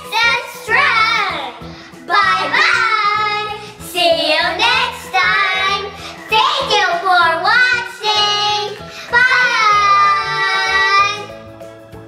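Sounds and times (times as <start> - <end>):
girls singing: 0.0 - 11.3
backing music: 0.0 - 12.0.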